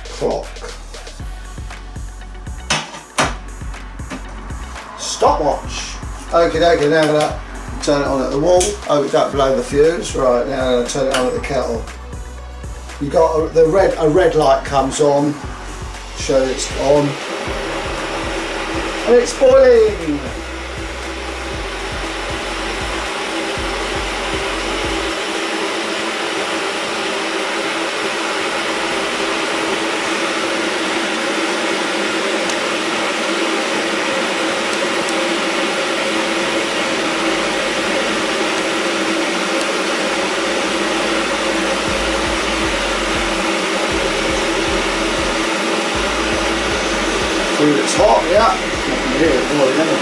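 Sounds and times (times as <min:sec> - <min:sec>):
electric kettle heating water: 0:02.5 - 0:50.0.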